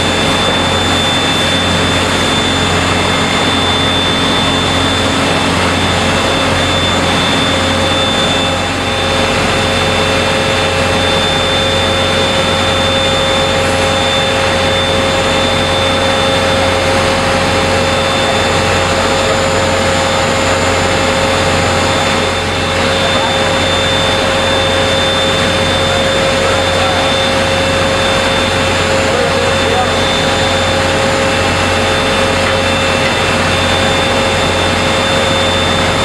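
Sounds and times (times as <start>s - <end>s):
factory machinery din: 0.0s - 36.0s
machine whining tones: 0.0s - 36.0s.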